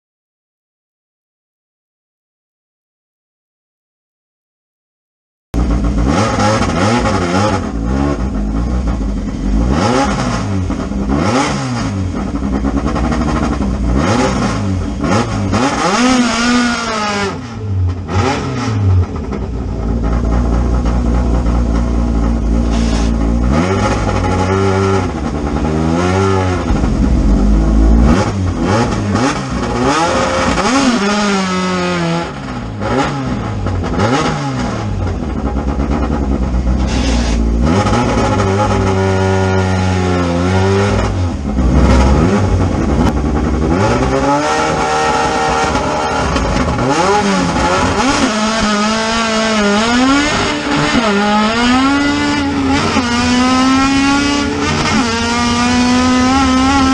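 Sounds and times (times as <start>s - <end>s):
racing car engines revving: 5.6s - 56.9s.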